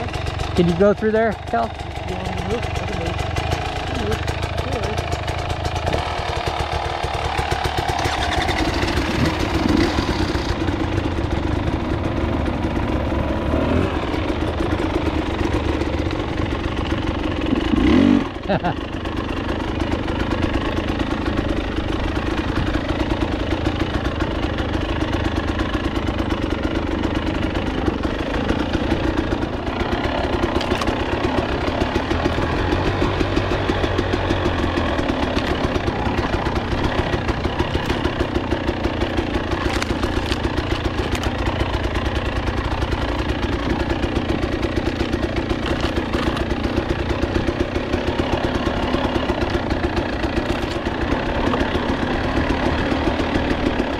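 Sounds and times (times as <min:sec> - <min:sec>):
dirt bike engine running: 0:00.0 - 0:53.9.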